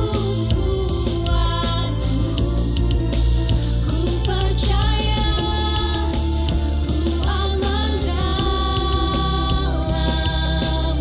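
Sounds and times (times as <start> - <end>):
electric bass guitar: 0.0 - 11.0
steady drum beat: 0.0 - 11.0
woman singing: 0.0 - 11.0.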